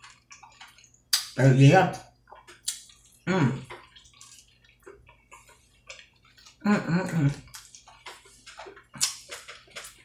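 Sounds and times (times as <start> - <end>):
wet chewing and smacking: 0.0 - 10.0.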